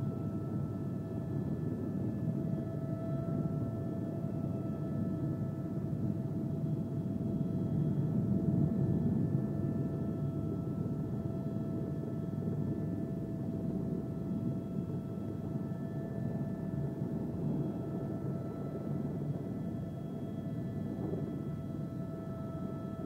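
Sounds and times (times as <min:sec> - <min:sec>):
helicopter engine rumble: 0:00.0 - 0:23.0
helicopter turbine whine: 0:00.0 - 0:23.0.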